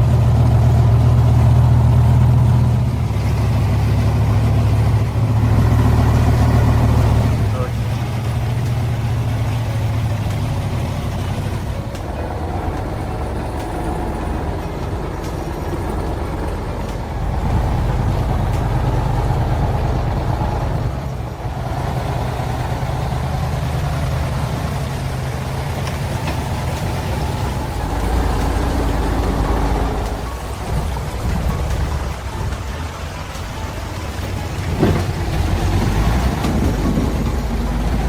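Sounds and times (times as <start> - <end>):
truck engine humming: 0.0 - 38.0.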